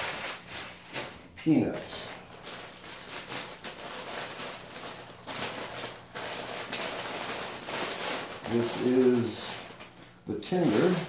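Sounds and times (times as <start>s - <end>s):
packing paper rustling and crackling: 0.0s - 11.0s.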